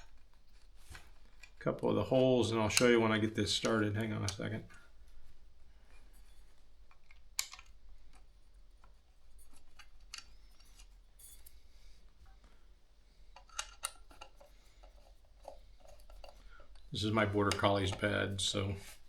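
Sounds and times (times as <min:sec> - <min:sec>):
metal fan parts clicking: 0:00.0 - 0:11.6, 0:13.3 - 0:19.0.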